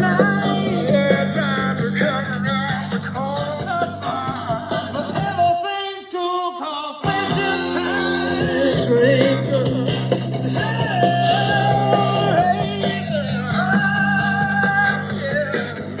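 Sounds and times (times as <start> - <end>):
steady bass line: 0.0 - 5.5, 7.0 - 16.0
guitar: 0.0 - 5.9, 7.0 - 16.0.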